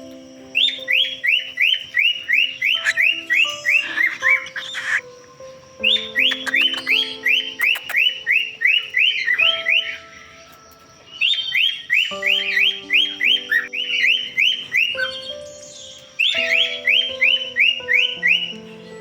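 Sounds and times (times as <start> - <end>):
background music of low notes: 0.0 - 19.0
cockatiels chirping: 0.6 - 19.0.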